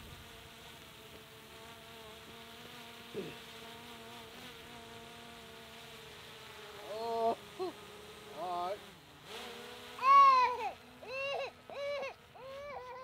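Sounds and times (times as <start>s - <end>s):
drone propellers buzzing: 0.0s - 13.0s.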